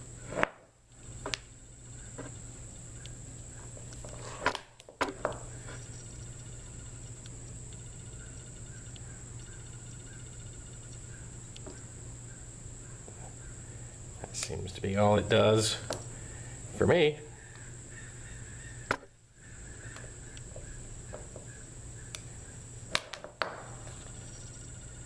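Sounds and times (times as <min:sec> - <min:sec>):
high whine: 0:00.0 - 0:25.0
low hum: 0:00.0 - 0:25.0.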